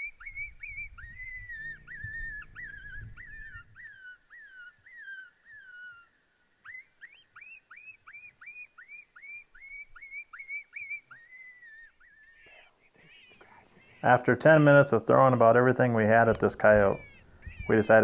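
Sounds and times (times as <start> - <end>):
predator call yipping: 0.0 - 6.0, 6.7 - 18.0.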